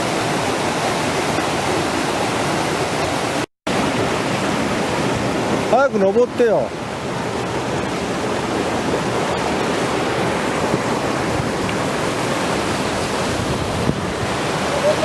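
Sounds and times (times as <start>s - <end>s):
rushing mountain water: 0.0s - 15.0s.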